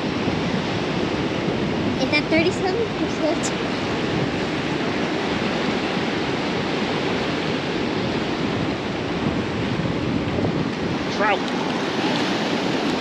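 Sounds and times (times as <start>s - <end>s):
waves breaking on a beach: 0.0s - 13.0s.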